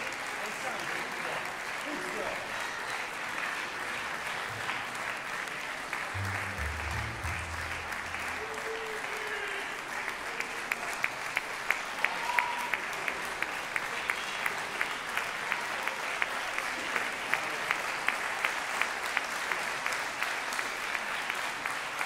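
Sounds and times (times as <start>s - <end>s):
audience clapping in unison: 0.0s - 22.0s.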